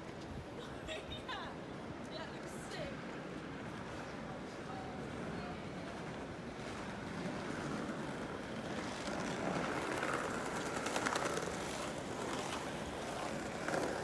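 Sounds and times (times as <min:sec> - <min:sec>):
city street traffic noise: 0:00.0 - 0:14.0.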